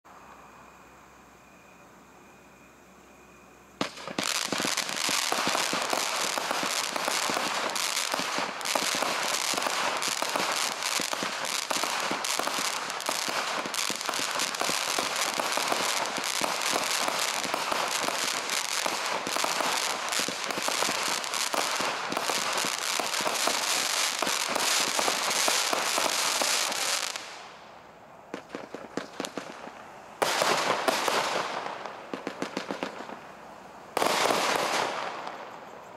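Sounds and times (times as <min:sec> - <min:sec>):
firework crackling: 0:03.7 - 0:35.9.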